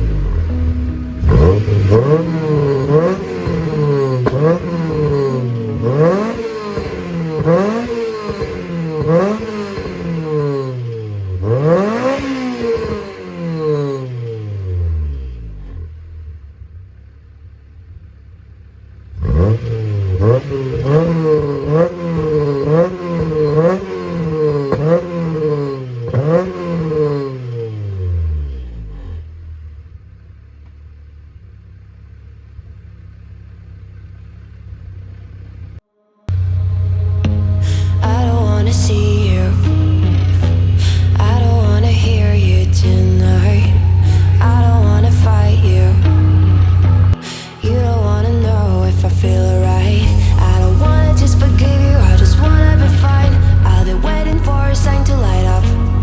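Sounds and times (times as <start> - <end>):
car engine revving: 0.0 - 30.7, 34.1 - 56.0
car engine idling: 0.0 - 56.0.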